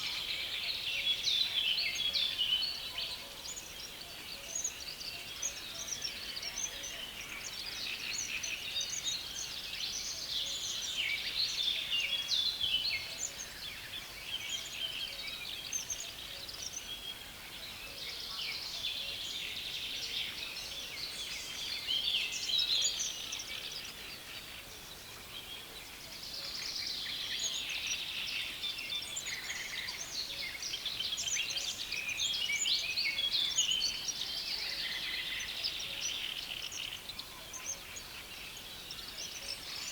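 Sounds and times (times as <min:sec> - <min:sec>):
small birds chattering and chirping: 0:03.5 - 0:39.9.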